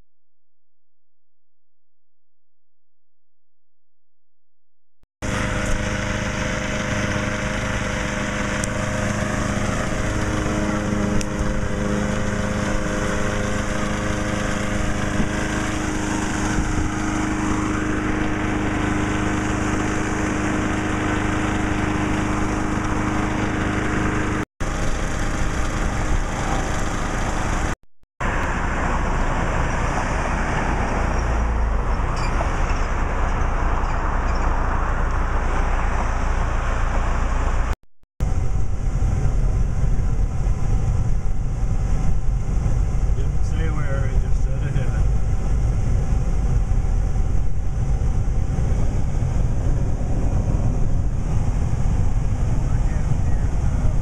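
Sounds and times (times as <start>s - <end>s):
road noise: 5.2s - 54.0s
vehicle engine running: 5.2s - 54.0s.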